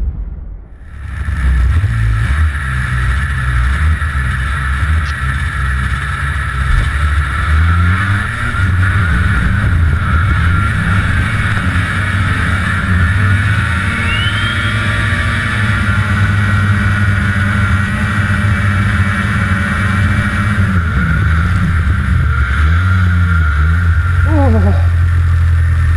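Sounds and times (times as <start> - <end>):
snowmobile engine running: 0.9 - 25.9.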